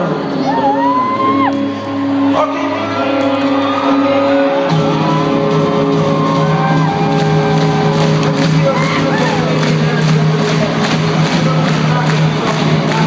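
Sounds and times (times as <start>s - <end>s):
crowd noise: 0.0s - 13.0s
live rock band playing: 1.0s - 13.0s.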